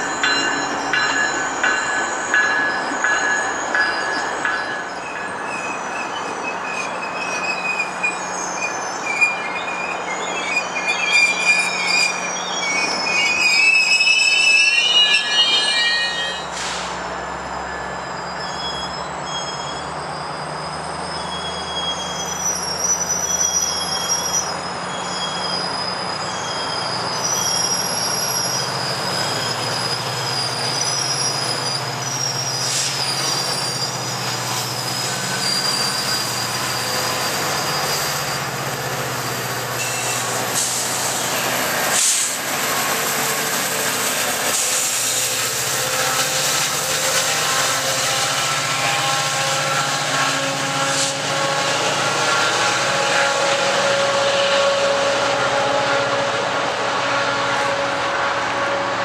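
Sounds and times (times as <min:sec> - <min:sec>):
diesel locomotive drone: 0:00.0 - 0:59.0
train rolling rumble: 0:00.0 - 0:59.0
wheels squealing on rails: 0:00.0 - 0:59.0.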